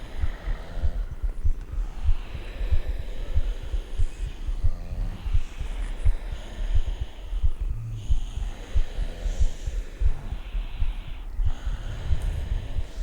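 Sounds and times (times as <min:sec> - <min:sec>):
cats purring: 0:00.0 - 0:13.0
people breathing in sleep: 0:00.0 - 0:13.0
people snoring: 0:00.0 - 0:13.0.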